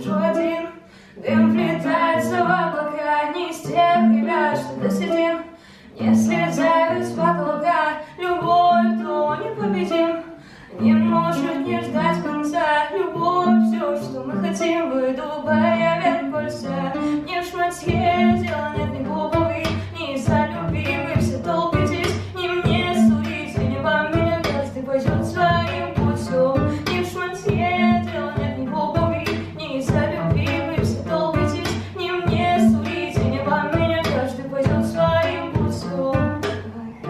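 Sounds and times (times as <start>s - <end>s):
woman singing: 0.0s - 37.0s.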